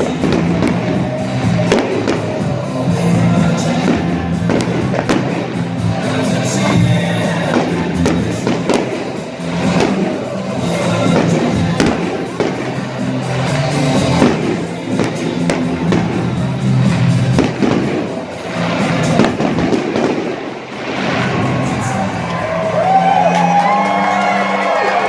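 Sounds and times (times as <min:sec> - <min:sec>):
fireworks bangs: 0:00.0 - 0:22.7
loud music with bass: 0:00.0 - 0:25.0.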